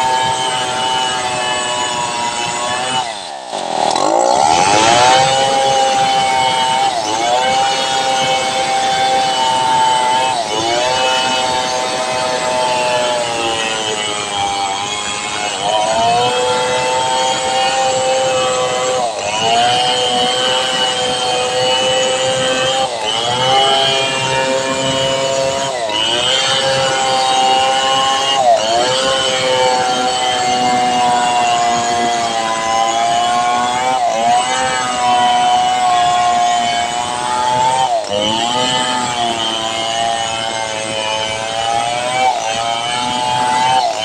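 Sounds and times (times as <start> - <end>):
chainsaw cutting log: 0.0 - 44.0.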